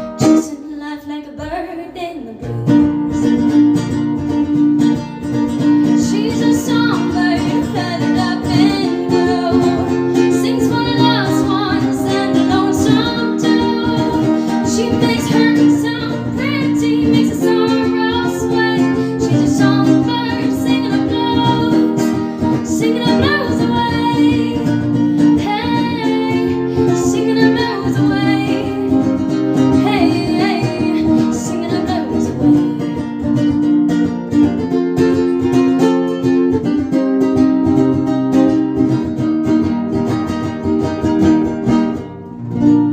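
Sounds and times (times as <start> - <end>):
strummed acoustic guitar: 0.0 - 42.9
woman singing country song: 0.0 - 42.9.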